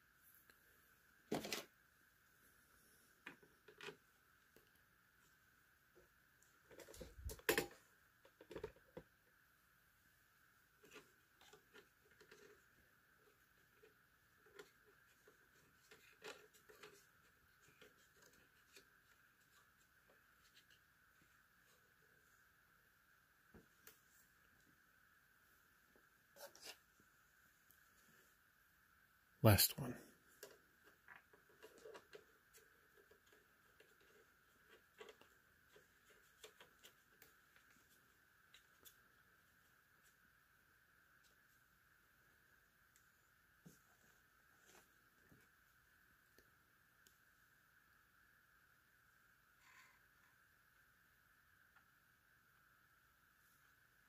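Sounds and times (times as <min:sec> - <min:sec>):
low steady hiss: 0:00.0 - 0:54.0.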